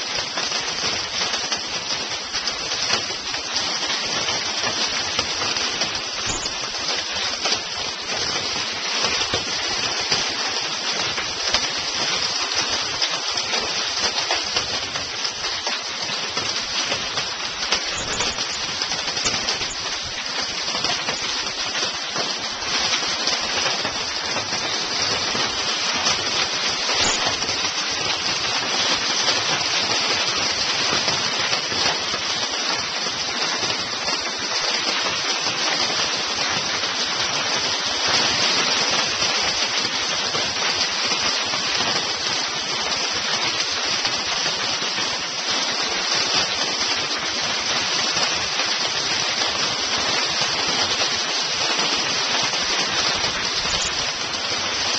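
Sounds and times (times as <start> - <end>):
hail pelting down: 0.0 - 54.9.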